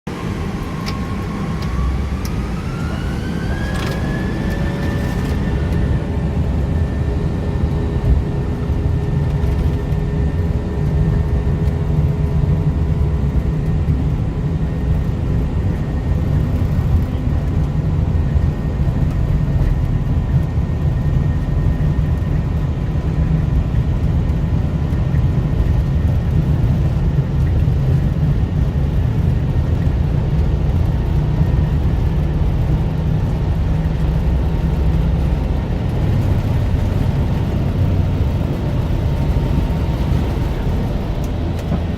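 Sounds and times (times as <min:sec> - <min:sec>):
airplane cabin rumble: 0:00.1 - 0:41.9.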